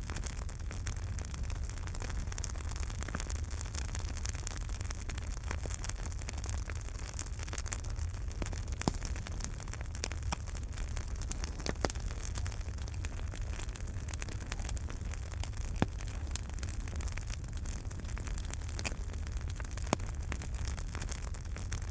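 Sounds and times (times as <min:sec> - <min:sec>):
loud fire pops: 0:00.0 - 0:21.9
wood fire crackling: 0:00.0 - 0:21.9.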